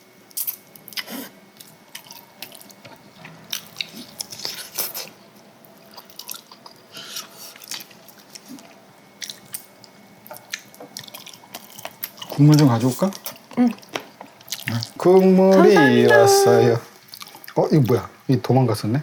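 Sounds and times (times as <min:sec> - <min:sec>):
people chewing: 0:00.3 - 0:18.1.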